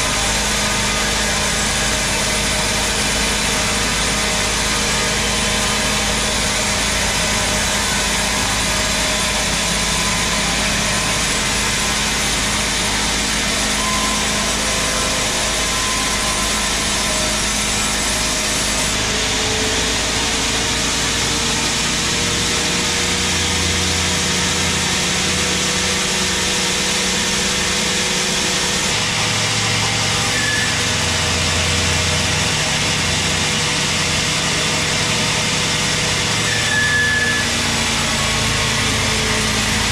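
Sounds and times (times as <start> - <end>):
saw cutting through log: 0.0 - 39.9
saw motor hum: 0.0 - 39.9.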